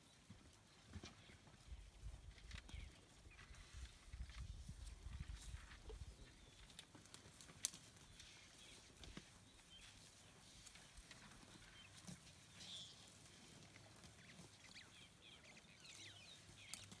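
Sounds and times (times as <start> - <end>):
elephants feeding snaps and rustles: 2.2 - 17.0.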